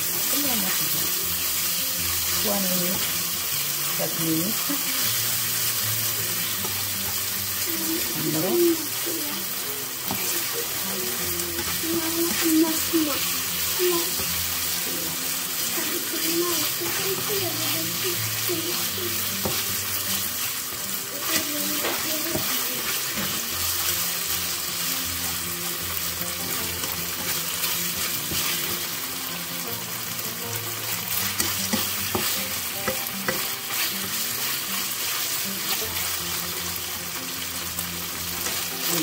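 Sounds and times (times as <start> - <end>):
chicken sizzling in a wok: 0.0 - 39.0.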